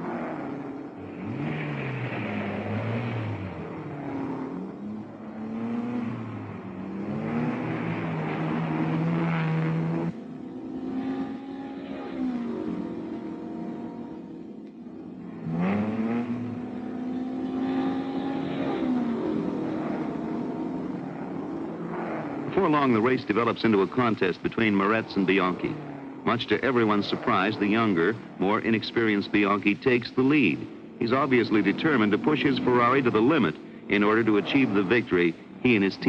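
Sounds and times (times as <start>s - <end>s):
racing car engines passing: 0.0s - 36.0s.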